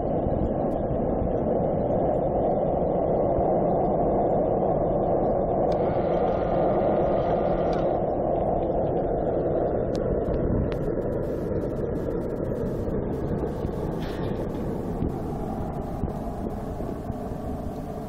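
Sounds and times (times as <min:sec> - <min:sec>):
burner rushing air and flame: 0:00.0 - 0:18.0.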